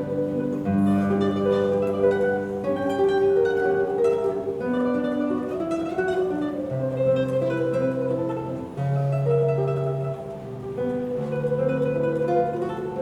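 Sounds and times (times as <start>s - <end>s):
classical guitar tremolo melody: 0.0s - 13.0s.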